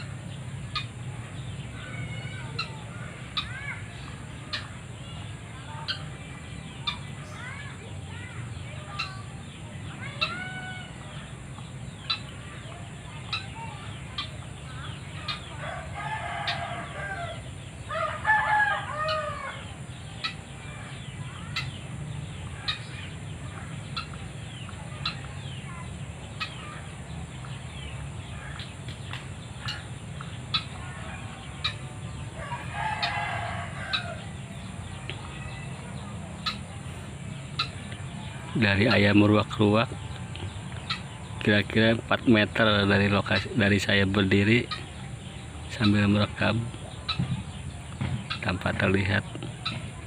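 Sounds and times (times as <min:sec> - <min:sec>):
waterhen calling: 0:00.0 - 0:50.0.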